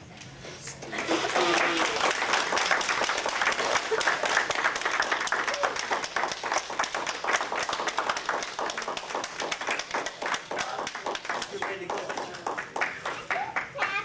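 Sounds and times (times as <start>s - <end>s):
crowd applauding: 0.9s - 14.0s.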